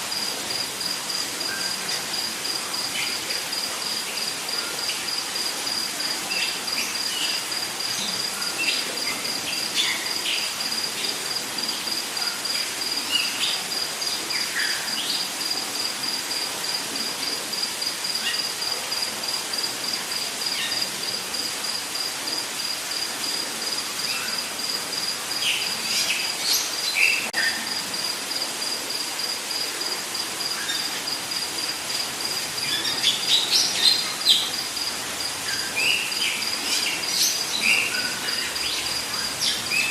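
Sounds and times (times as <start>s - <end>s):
dense hiss of insects: 0.0s - 39.9s.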